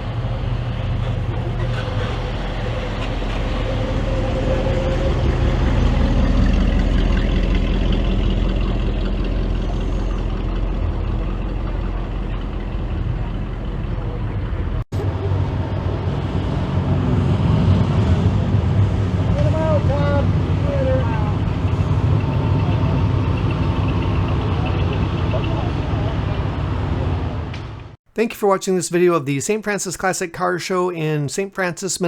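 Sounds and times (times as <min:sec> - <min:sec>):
car engines rumbling: 0:00.0 - 0:28.0
outdoor background noise: 0:00.0 - 0:28.2.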